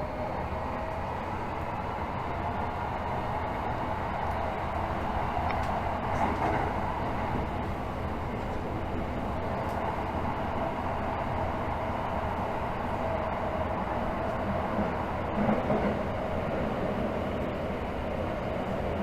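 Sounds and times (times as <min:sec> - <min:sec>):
subway train wheels rumbling on rail: 0:00.0 - 0:19.0.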